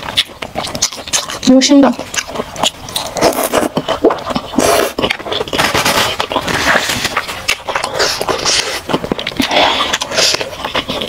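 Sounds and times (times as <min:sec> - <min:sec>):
wet chewing and slurping: 0:00.0 - 0:11.0.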